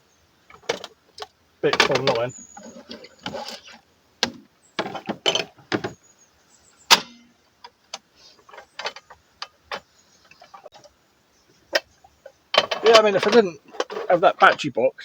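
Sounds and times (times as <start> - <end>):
objects clicking and knocking: 0.5 - 6.0, 6.9 - 11.0, 11.7 - 14.7.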